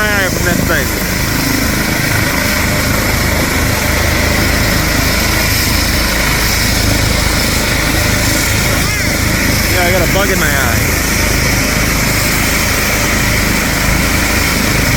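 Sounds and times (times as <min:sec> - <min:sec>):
helicopter turbine and rotor roar: 0:00.0 - 0:14.9.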